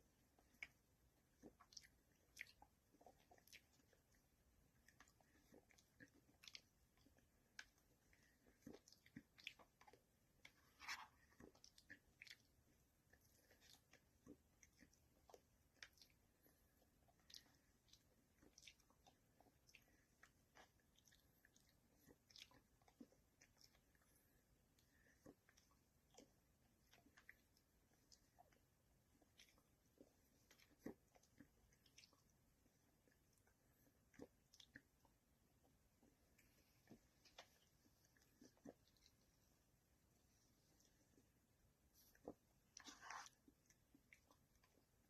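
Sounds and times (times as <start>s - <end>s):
person eating ice cream: 0.0s - 45.0s.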